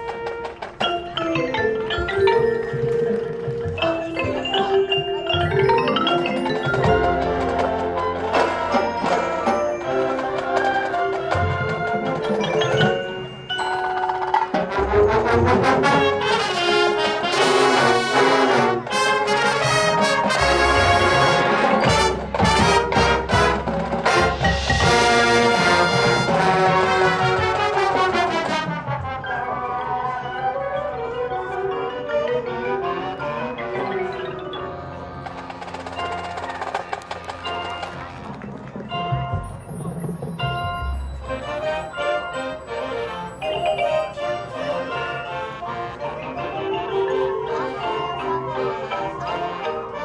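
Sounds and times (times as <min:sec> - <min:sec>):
mallet percussion: 0:00.0 - 0:50.0
marching band brass: 0:00.0 - 0:50.0.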